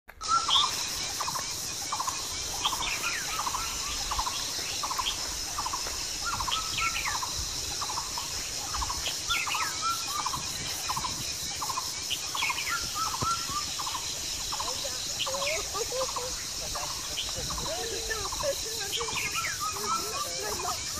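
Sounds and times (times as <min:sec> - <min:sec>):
steady high-pitched hiss: 0:00.1 - 0:20.9.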